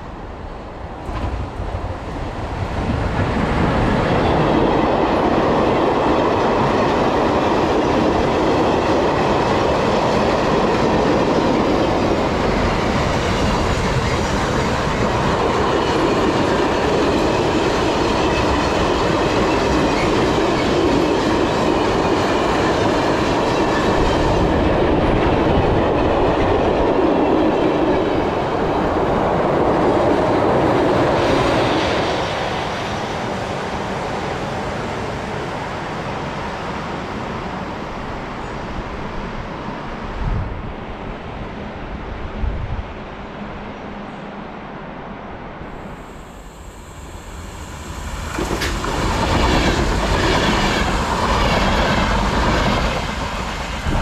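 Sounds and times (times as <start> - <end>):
train passing close by: 0.0 - 54.0.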